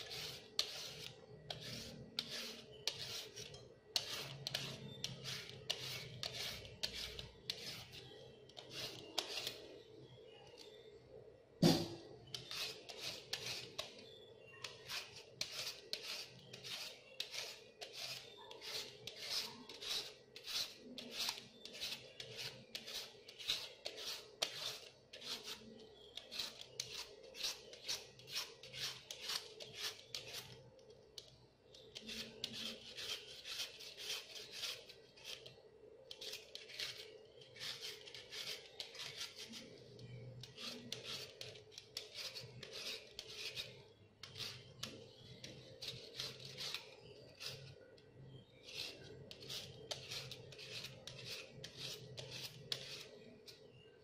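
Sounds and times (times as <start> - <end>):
peeler rasping on carrot: 0.0 - 9.7, 12.3 - 14.0, 14.6 - 30.6, 31.2 - 47.7, 48.6 - 53.2.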